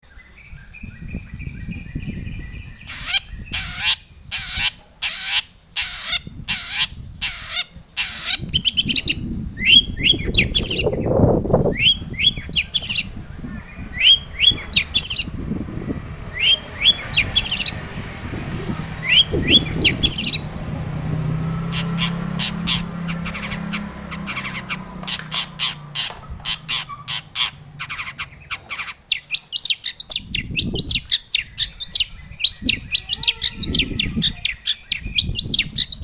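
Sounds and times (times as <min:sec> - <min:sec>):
shrike singing: 0:00.2 - 0:36.0.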